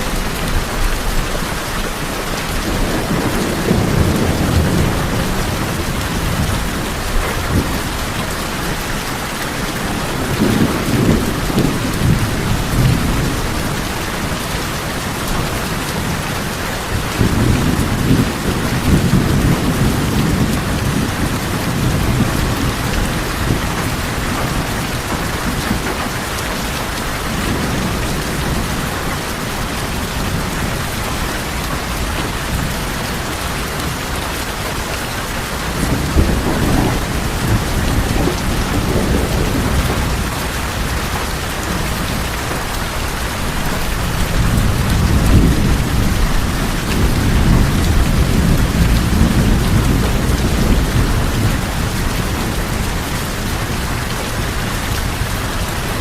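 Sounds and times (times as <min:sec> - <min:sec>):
heavy rain on tin roofs: 0:00.0 - 0:56.0
thunder rolling: 0:02.2 - 0:56.0.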